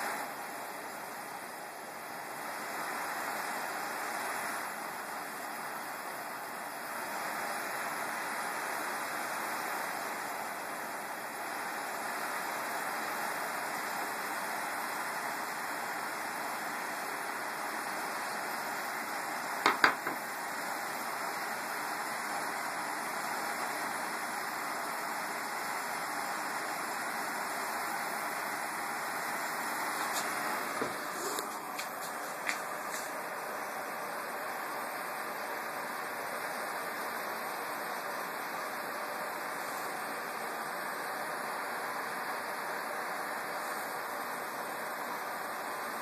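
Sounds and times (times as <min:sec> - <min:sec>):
stove burner hissing: 0:00.0 - 0:46.0.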